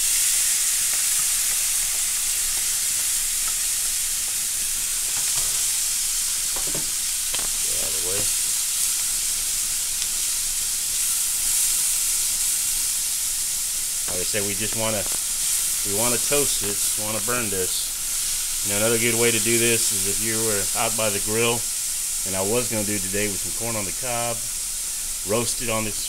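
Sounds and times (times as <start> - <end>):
corn sizzling in butter: 0.0 - 26.0.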